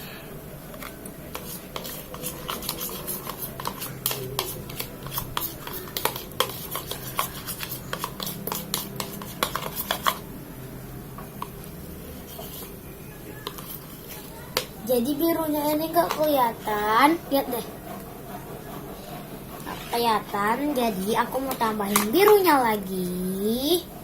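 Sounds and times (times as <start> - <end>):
stirrer scraping a container: 0.7 - 10.3, 11.3 - 22.7.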